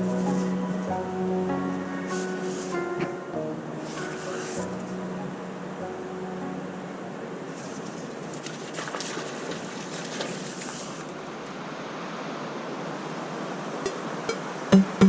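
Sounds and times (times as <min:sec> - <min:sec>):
surf rushing on shore: 0:00.0 - 0:14.7.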